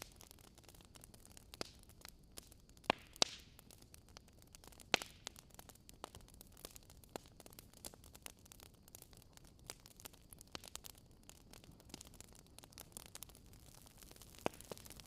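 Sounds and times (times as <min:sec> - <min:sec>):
wood fire crackling faintly: 0:00.0 - 0:15.0.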